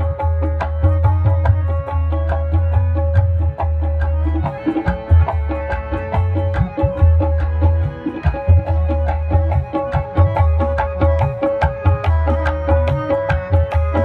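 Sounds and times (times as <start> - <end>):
harmonium notes: 0.0 - 14.0
tabla drumming: 0.0 - 14.0.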